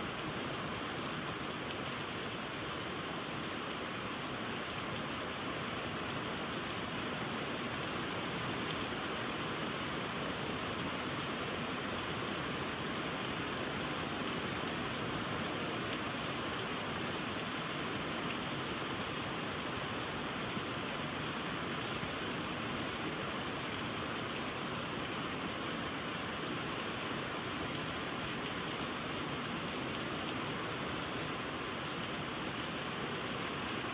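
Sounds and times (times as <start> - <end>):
rain on leaves and water: 0.0 - 33.9.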